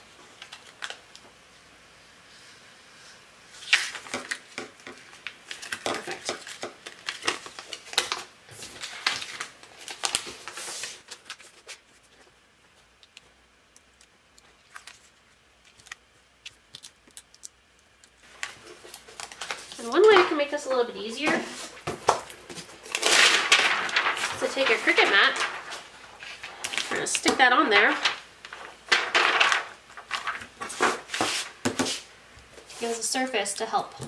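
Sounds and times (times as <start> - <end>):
paper backing peeling and crinkling: 0.3 - 1.3, 3.6 - 20.4, 21.2 - 31.6.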